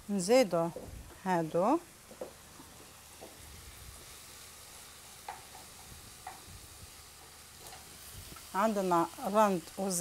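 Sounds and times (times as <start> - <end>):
sauce sizzling in a pan: 0.0 - 10.0.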